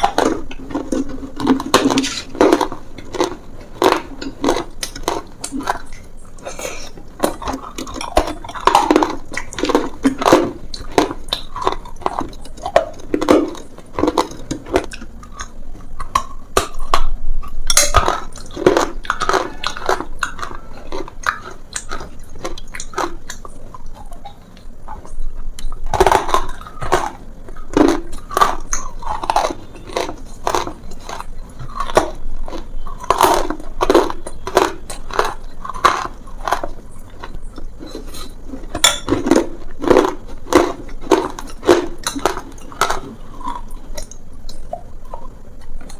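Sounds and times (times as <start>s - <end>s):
chewing crunchy food: 0.0s - 45.9s.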